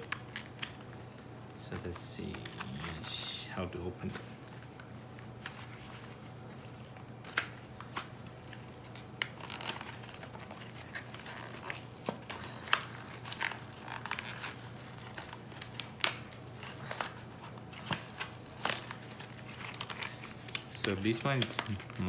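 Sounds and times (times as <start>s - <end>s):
plastic packaging crinkling and tearing: 0.0s - 22.0s.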